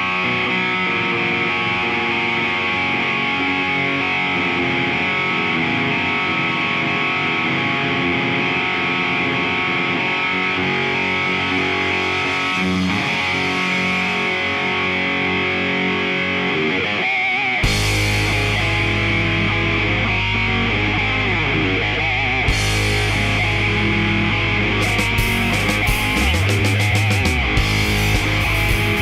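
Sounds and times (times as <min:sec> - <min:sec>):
distorted electric guitar: 0:00.0 - 0:29.0.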